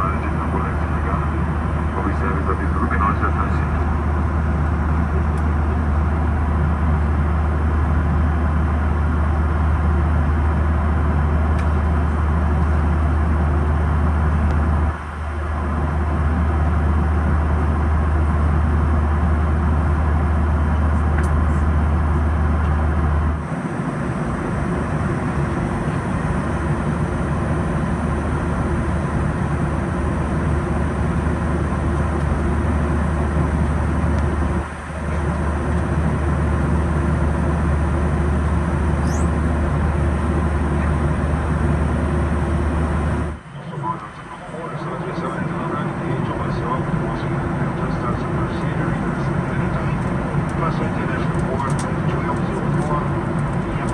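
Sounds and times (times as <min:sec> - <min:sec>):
airplane cabin roar: 0:00.0 - 0:53.9.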